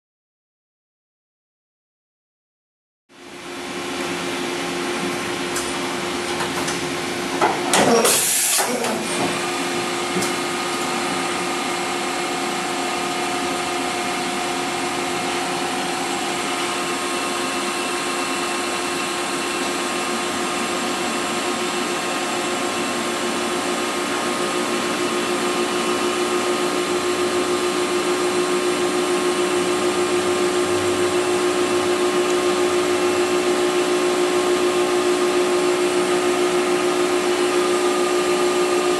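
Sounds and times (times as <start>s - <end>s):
machine hum with steady tones: 3.1s - 38.9s.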